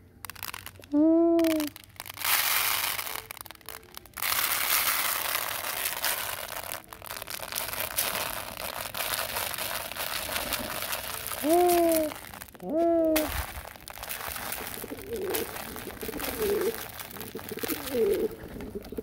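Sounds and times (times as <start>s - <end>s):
dry feed pouring into plastic bowl: 0.2s - 0.8s, 1.4s - 18.8s.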